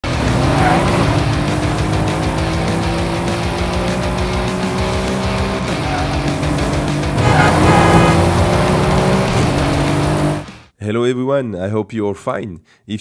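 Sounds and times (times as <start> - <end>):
car engine pulling: 0.0 - 10.5
background music: 0.0 - 10.7.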